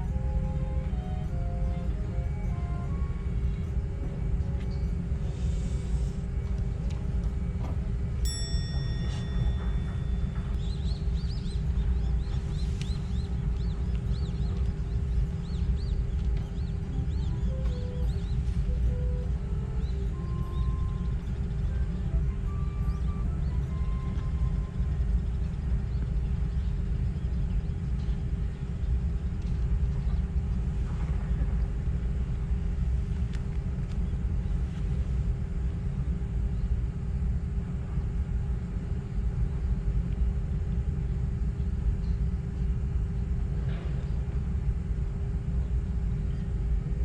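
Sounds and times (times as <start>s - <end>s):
constant hum: 0.0s - 47.0s
low rumble: 0.0s - 47.0s.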